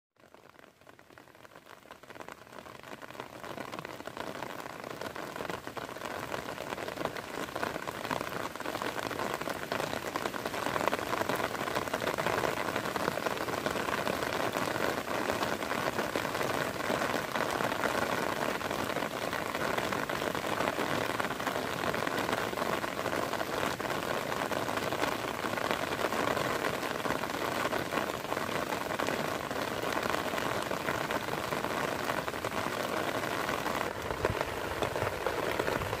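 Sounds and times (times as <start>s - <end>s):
heavy rain falling: 0.3s - 36.0s.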